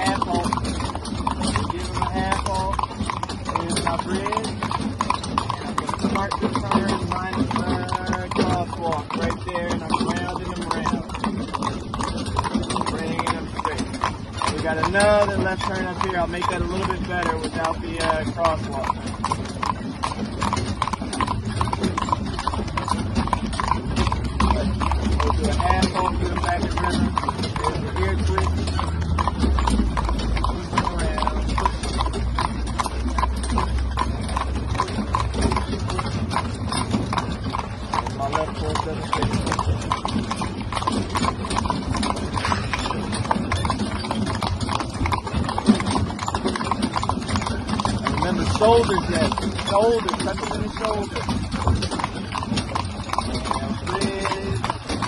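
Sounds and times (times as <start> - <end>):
hooves clip-clopping on road: 0.0 - 55.0.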